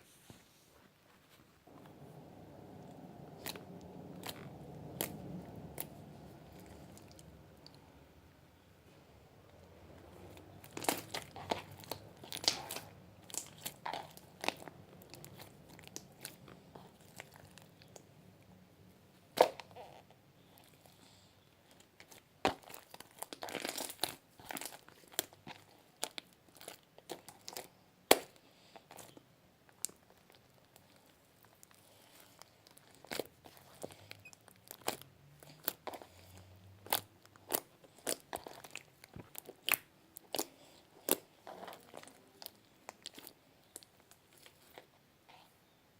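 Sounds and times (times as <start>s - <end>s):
slime crackling and popping: 1.7s - 7.8s, 10.3s - 18.1s, 21.9s - 44.9s.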